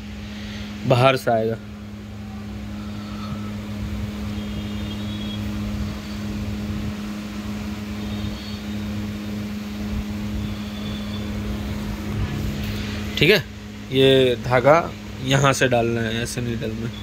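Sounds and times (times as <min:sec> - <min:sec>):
electric machine hum: 0:00.0 - 0:17.0.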